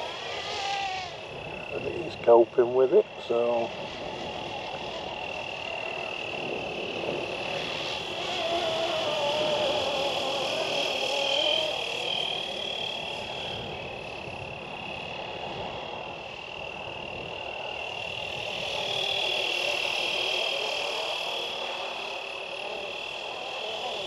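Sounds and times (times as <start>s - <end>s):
rc helicopter high whine: 0.0s - 24.0s.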